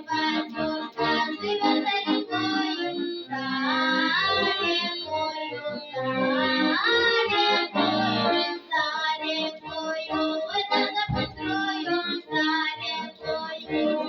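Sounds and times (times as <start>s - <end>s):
girl singing folk song: 0.0s - 14.0s
instrumental accompaniment: 0.0s - 14.0s.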